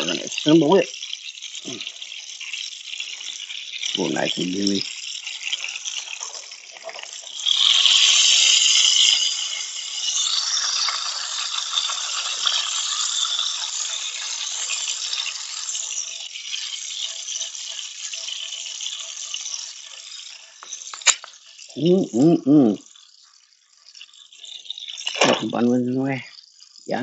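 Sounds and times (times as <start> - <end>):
grease sizzling in frying pan: 0.0 - 27.0.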